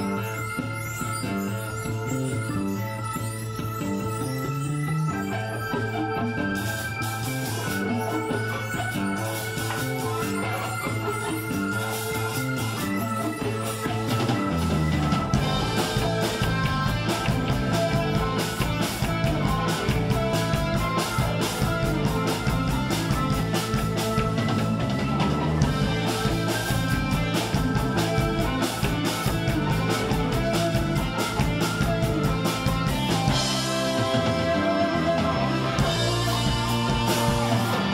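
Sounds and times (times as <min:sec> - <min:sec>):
instrumental rock music: 0:00.0 - 0:37.9.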